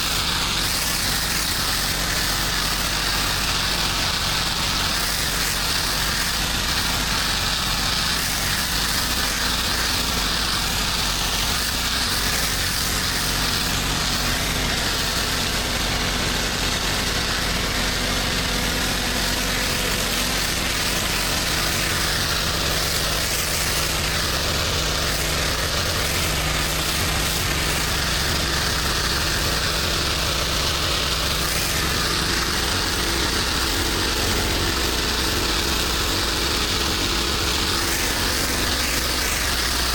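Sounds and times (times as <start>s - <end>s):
pressure washer engine running: 0.0s - 39.9s
steady hiss: 0.0s - 39.9s.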